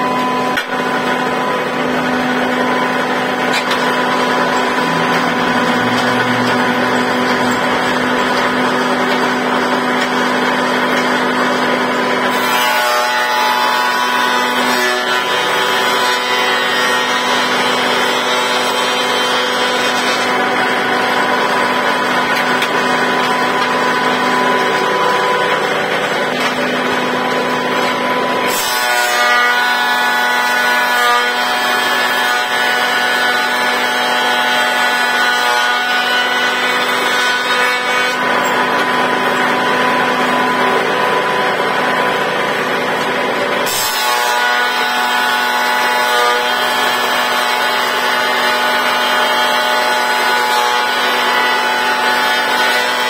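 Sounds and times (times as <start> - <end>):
woodworking machine planing boards: 0.0 - 53.0.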